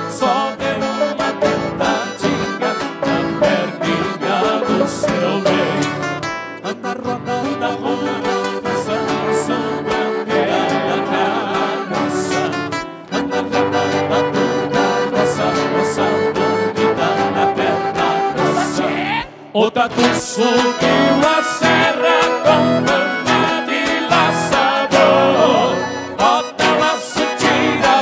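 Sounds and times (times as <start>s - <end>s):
accordion: 0.0s - 28.0s
guitar: 0.0s - 28.0s
person singing: 0.0s - 28.0s.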